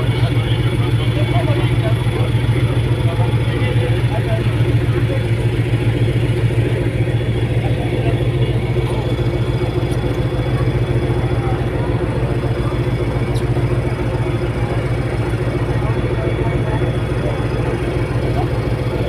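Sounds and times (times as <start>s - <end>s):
ferry diesel engines droning: 0.0s - 19.0s.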